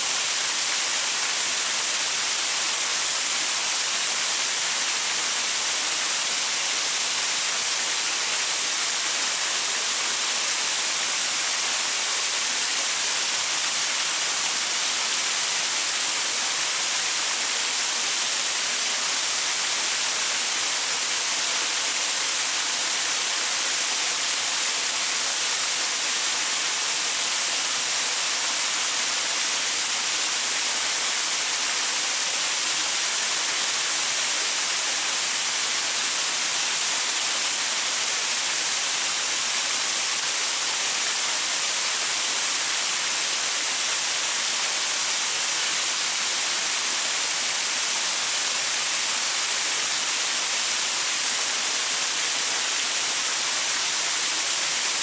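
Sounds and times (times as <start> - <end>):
small waterfall splashing over rocks: 0.0 - 55.0.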